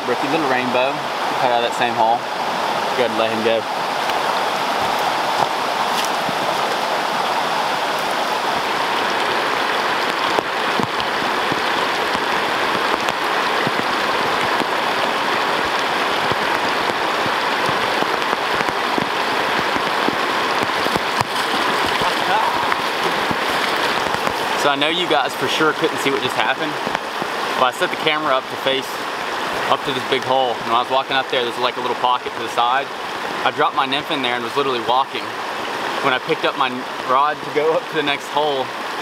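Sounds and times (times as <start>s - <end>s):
creek rushing over rocks: 0.0s - 39.0s
rain falling: 0.0s - 39.0s.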